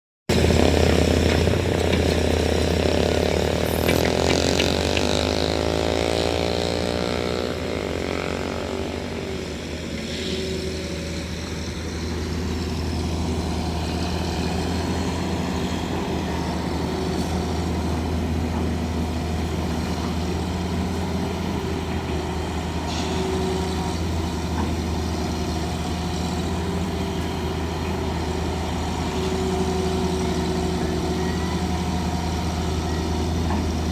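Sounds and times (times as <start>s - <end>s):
heavy diesel engine droning: 0.3s - 33.9s.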